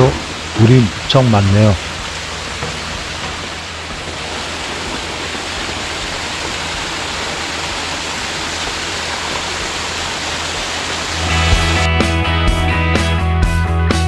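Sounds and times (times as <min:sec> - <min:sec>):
stream water rushing over rocks: 0:00.0 - 0:11.9.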